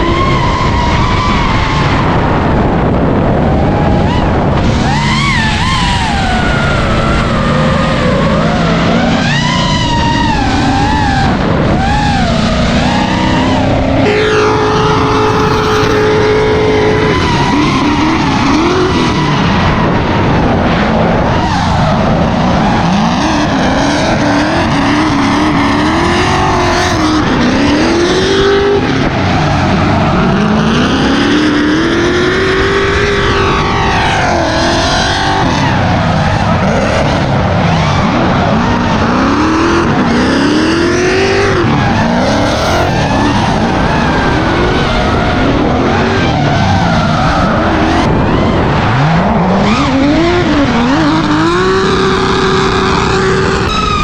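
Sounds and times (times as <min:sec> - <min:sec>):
car engines revving: 0:00.0 - 0:54.0
tyres squealing and skidding: 0:00.0 - 0:54.0.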